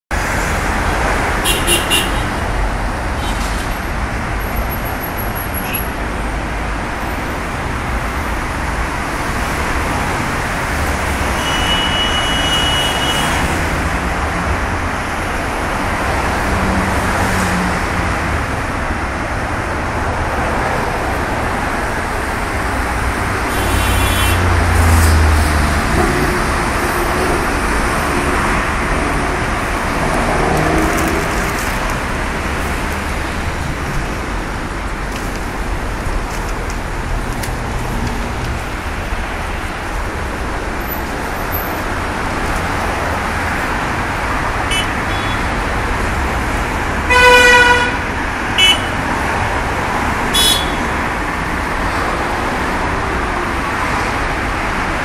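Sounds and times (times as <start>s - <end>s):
dense road traffic: 0.1s - 55.0s.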